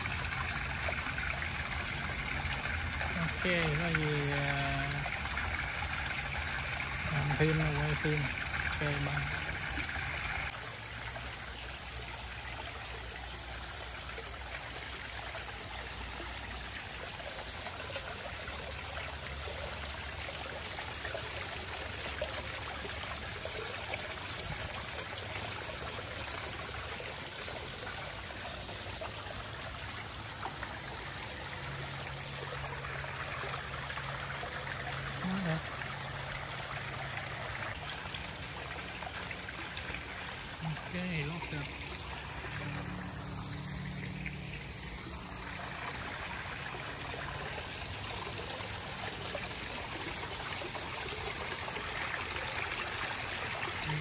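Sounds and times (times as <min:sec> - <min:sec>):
water splashing into a pond: 0:00.0 - 0:54.0.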